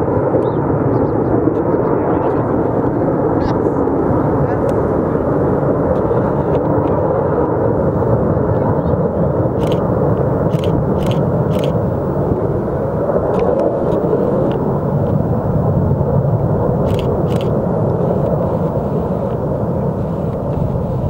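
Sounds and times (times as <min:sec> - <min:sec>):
distant jet engine rumble: 0:00.0 - 0:21.0.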